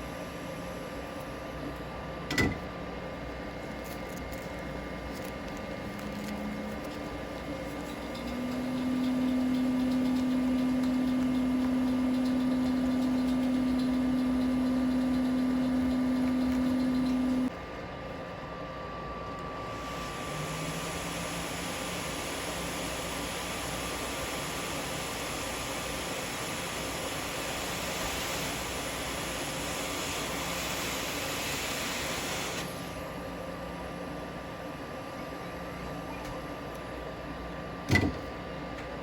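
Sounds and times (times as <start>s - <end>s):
hot air station blowing hum: 0.0s - 39.0s.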